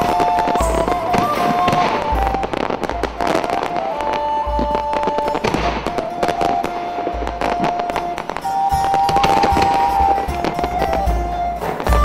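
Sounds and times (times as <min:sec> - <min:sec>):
fireworks bursting and crackling: 0:00.0 - 0:12.0
music with long held notes: 0:00.0 - 0:12.0.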